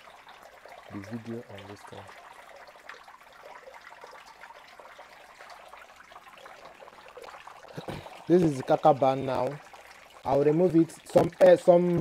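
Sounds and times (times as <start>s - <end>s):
faint trickle of running water: 0.0s - 12.0s.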